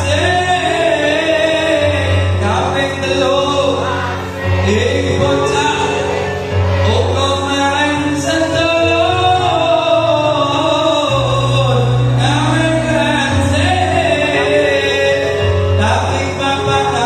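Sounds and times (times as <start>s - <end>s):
low musical accompaniment: 0.0s - 17.0s
man singing into a microphone: 0.0s - 17.0s.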